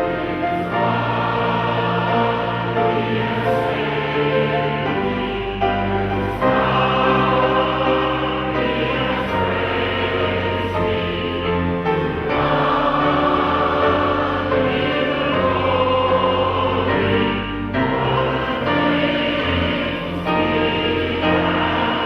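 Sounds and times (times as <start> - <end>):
choir singing: 0.0 - 22.0
instrumental accompaniment: 0.0 - 22.0.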